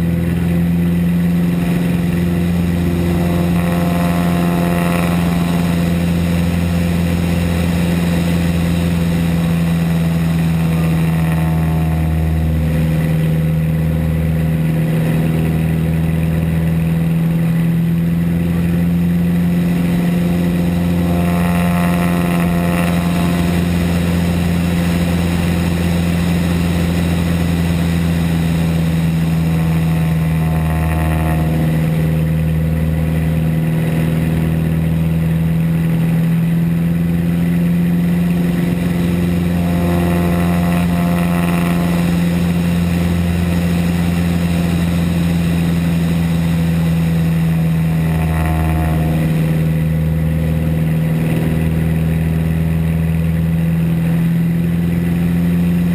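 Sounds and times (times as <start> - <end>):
aircraft engine and propeller drone: 0.0 - 55.9.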